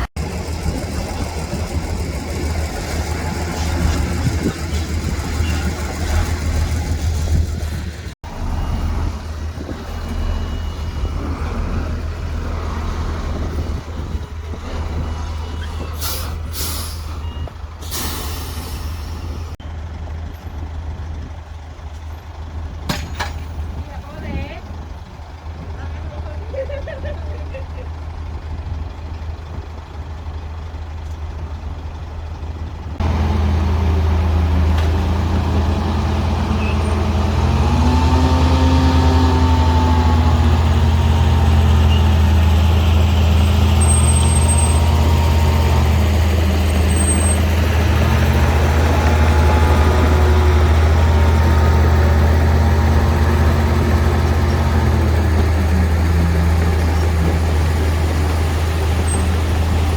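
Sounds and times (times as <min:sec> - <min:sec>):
heavy diesel engine revving: 0:00.0 - 0:22.8, 0:28.0 - 0:59.9.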